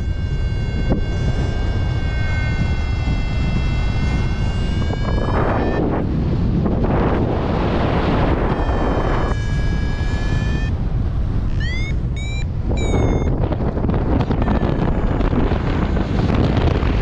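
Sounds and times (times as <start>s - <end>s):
rising electronic tone: 0.0s - 10.8s, 11.4s - 17.0s
wind rushing over microphone: 0.0s - 17.0s.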